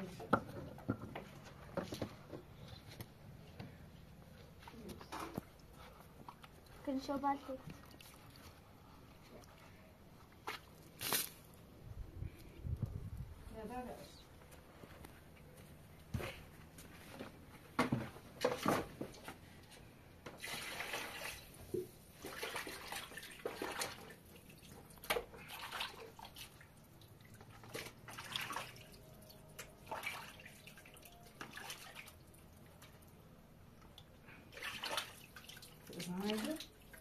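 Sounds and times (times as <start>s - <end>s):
water splashing and sloshing: 0.0s - 11.8s, 13.6s - 37.0s.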